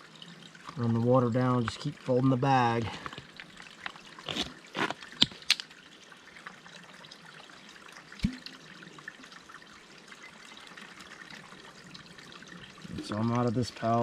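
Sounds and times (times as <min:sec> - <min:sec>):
water trickling into a bottle: 0:00.0 - 0:14.0.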